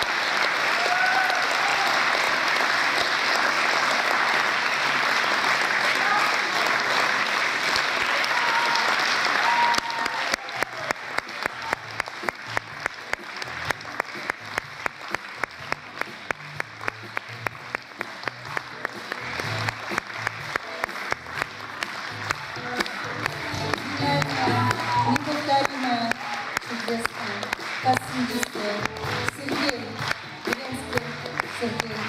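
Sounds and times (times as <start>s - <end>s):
audience applause: 0.0s - 32.0s.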